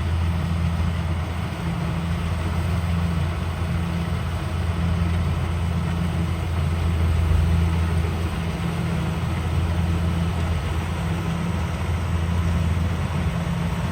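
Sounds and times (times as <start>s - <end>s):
harvester engine humming: 0.0s - 13.9s.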